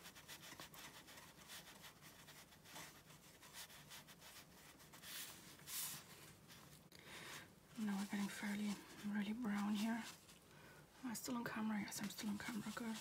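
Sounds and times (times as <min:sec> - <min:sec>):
brush rubbing on paper: 0:00.0 - 0:06.8, 0:07.7 - 0:10.4, 0:11.9 - 0:13.0.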